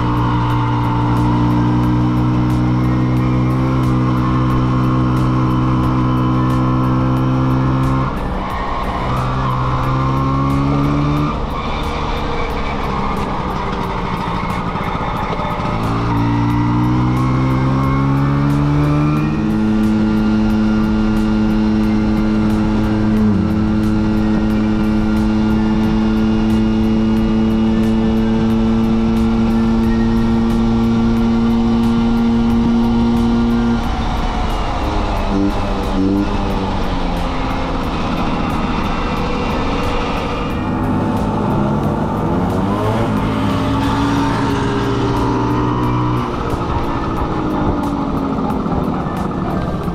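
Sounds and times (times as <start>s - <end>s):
scooter engine running: 0.0s - 49.9s.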